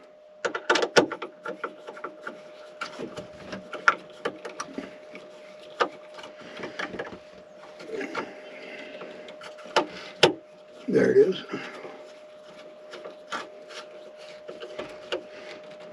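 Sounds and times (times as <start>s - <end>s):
faint steady hum: 0.0s - 15.9s
clicks taps and scraping: 0.4s - 10.9s, 11.6s - 15.9s.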